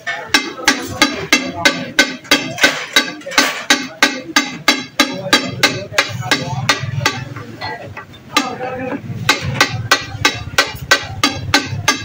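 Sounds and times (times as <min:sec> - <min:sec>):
spatula clanging on iron griddle: 0:00.0 - 0:07.4, 0:09.2 - 0:12.0.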